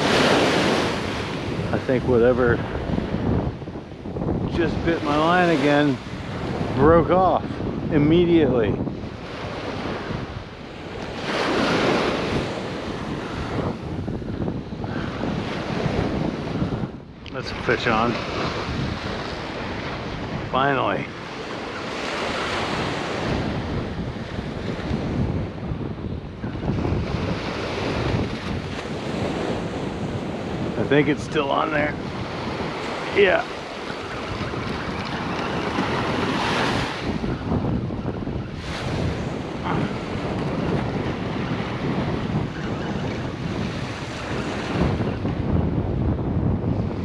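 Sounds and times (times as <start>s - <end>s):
small waves washing onto beach: 0.0s - 47.0s
wind buffeting microphone: 0.0s - 47.0s.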